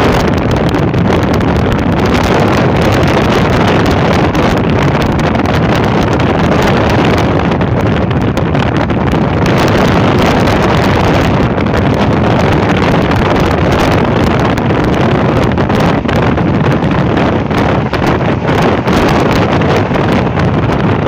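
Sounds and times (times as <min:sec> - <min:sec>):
car road noise: 0:00.0 - 0:21.0
wind buffeting microphone: 0:00.0 - 0:21.0.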